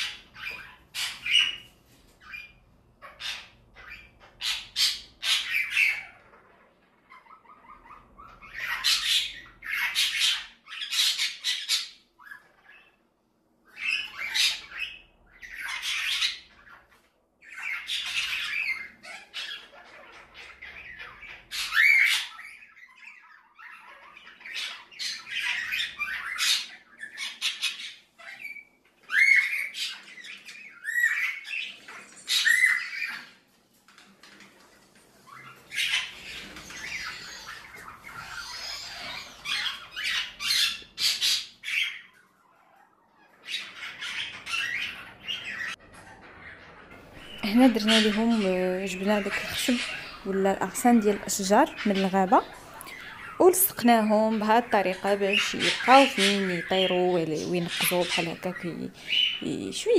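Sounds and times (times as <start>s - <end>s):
pet birds chattering and squawking: 0.0s - 59.9s.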